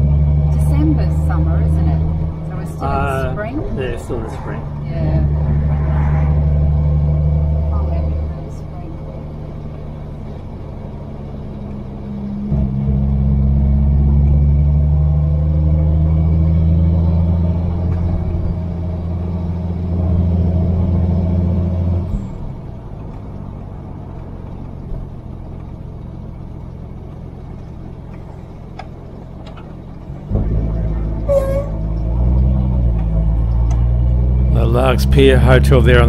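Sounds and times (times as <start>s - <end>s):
car engine under throttle: 0.0s - 36.0s
road noise: 0.0s - 36.0s.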